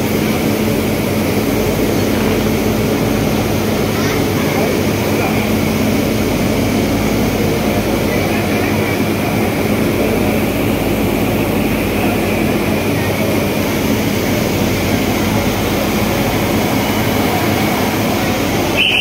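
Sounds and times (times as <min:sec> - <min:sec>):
steam locomotive roar and hiss: 0:00.0 - 0:19.0.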